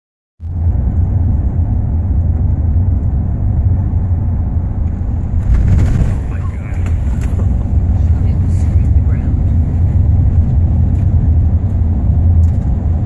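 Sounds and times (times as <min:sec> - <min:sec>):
car engine and road noise: 0:00.4 - 0:13.0.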